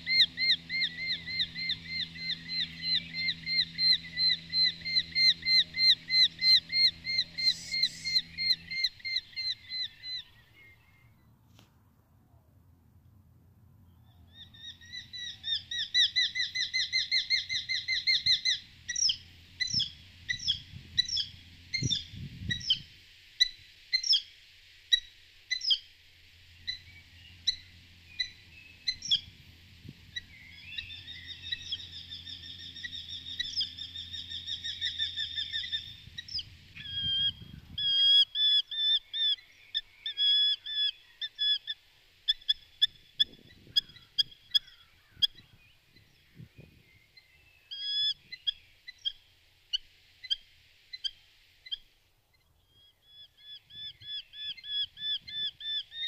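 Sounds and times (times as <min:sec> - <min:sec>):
bird trilling and calling: 0:00.0 - 0:11.3, 0:14.0 - 0:24.3, 0:24.9 - 0:50.4, 0:52.7 - 0:56.0
faint low hum: 0:00.0 - 0:56.0.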